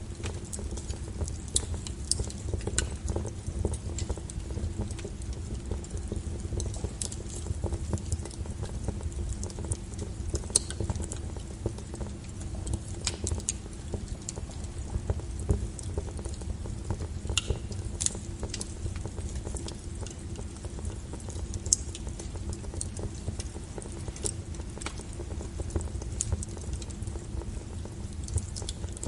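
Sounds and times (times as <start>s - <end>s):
low rumble of burning: 0.0s - 29.0s
wood fire crackling and popping: 0.0s - 29.0s.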